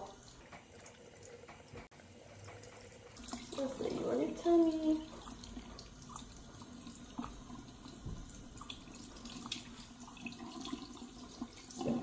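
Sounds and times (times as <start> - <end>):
faucet running: 0.0 - 12.0.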